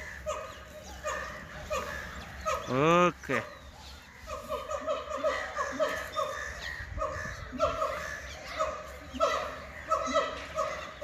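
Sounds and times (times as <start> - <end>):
animals calling rapidly: 0.0 - 11.0.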